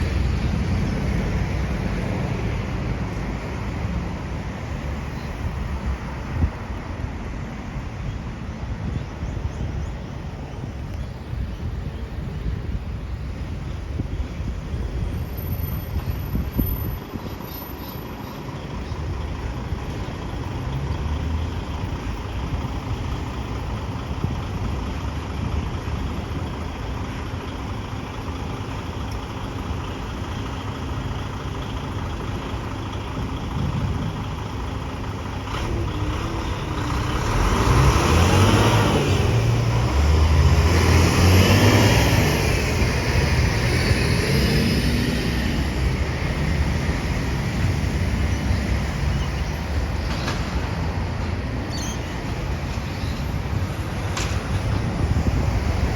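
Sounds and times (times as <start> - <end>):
garbage truck engine rumbling: 8.8 - 43.7, 44.3 - 55.9.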